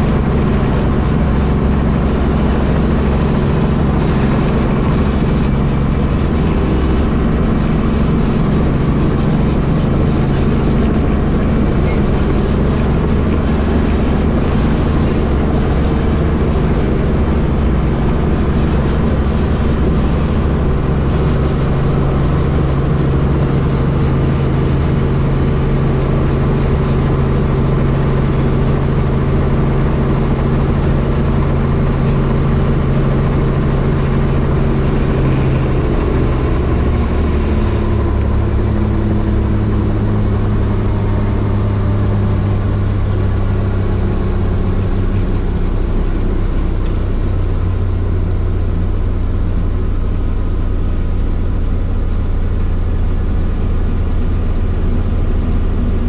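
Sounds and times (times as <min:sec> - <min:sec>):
helicopter rotor and engine hum: 0:00.0 - 0:56.0.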